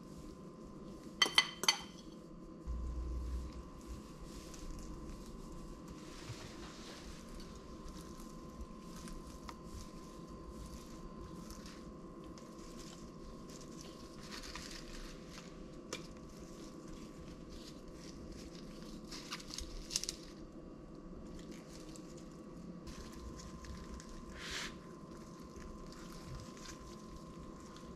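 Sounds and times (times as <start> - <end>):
faint steady hum: 0.0 - 27.9
soft squishing of cheese: 2.1 - 27.9
lettuce leaves rustling: 2.7 - 20.5, 21.2 - 27.9.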